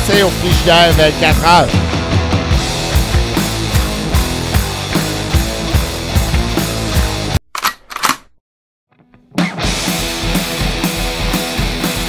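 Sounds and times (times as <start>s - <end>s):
rock music with drum beat: 0.0s - 7.4s, 9.2s - 12.0s.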